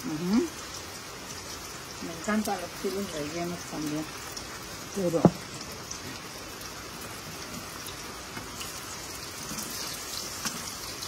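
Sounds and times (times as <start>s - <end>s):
flowers frying in a skillet: 0.0s - 11.0s.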